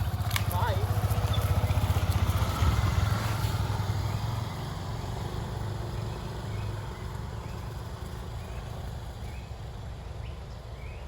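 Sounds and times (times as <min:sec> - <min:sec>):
vehicle engine low pulsing: 0:00.0 - 0:11.0.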